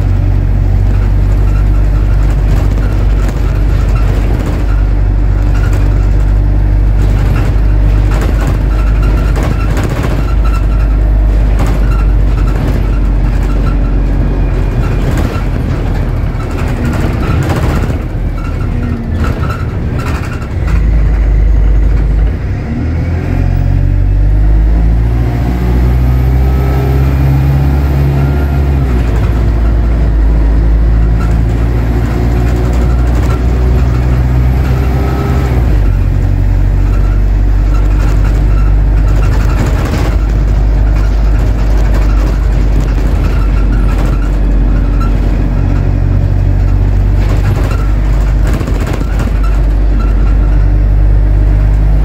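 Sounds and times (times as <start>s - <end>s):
knocks and rattles: 0.0s - 22.8s, 23.7s - 52.0s
bus engine changing gear: 0.0s - 52.0s.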